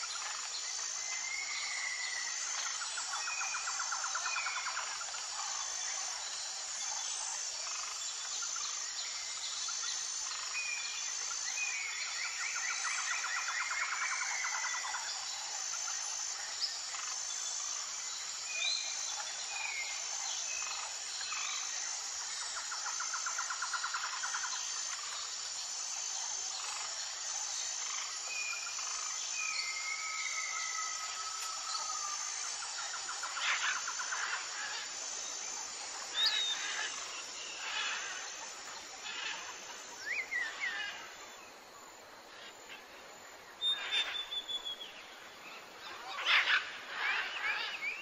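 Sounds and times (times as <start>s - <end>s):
insect chorus: 0.0s - 48.0s.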